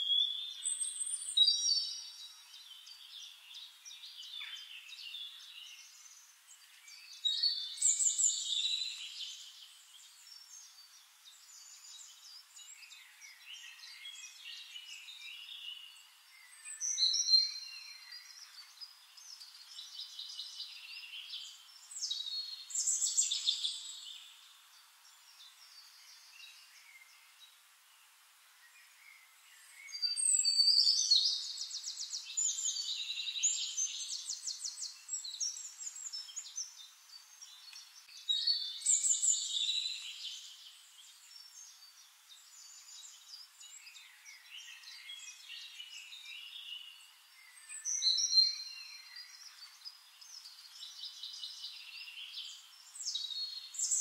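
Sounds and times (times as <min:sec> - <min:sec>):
bird chirps: 0:00.0 - 0:27.6, 0:28.6 - 0:54.0.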